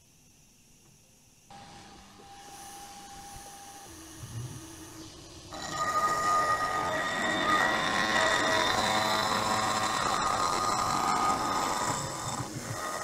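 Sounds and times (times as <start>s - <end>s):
milling machine spindle whine: 1.5s - 13.0s.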